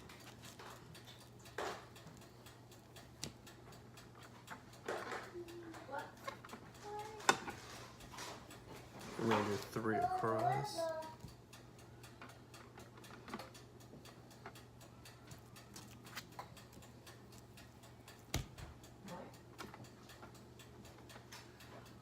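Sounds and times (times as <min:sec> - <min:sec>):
light ticks and clicks: 0:00.0 - 0:22.0.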